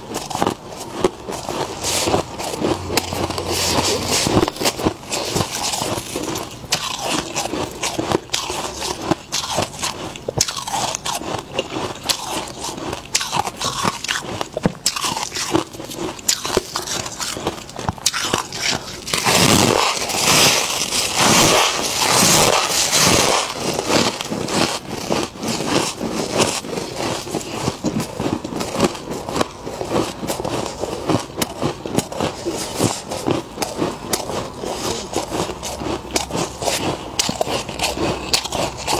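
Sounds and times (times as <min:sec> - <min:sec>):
frost crunching being chewed: 0:00.0 - 0:38.9.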